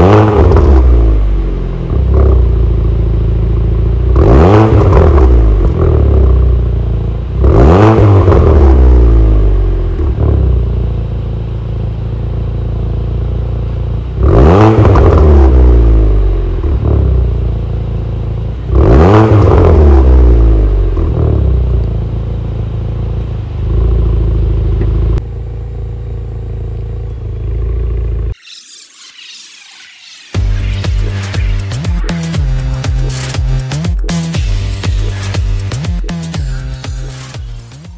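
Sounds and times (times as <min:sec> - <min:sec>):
car engine revving: 0:00.0 - 0:13.1, 0:13.7 - 0:37.9.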